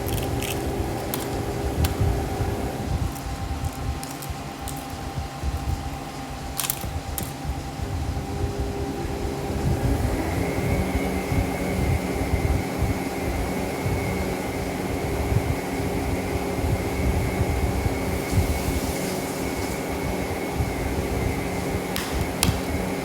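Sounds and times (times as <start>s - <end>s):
machine rumbling and humming: 0.0s - 23.0s.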